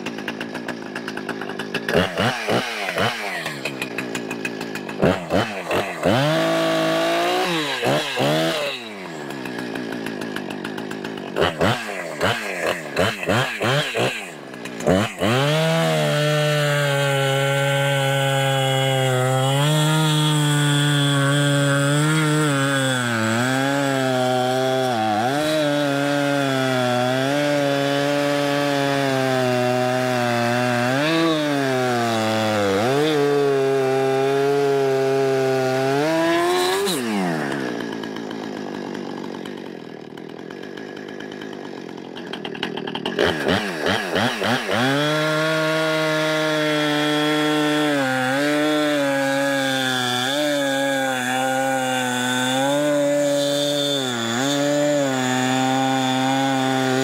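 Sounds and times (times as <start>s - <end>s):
chainsaw cutting log: 0.0s - 57.0s
chainsaw idling and revving: 0.0s - 57.0s.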